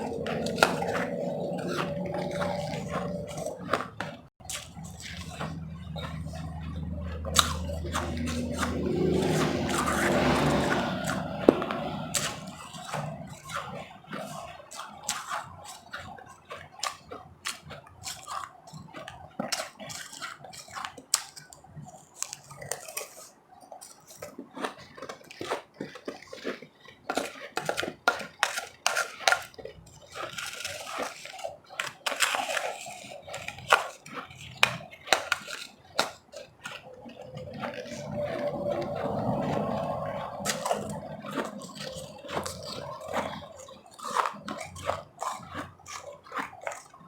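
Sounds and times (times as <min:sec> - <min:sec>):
ice being chewed and crunched: 0:00.0 - 0:47.0.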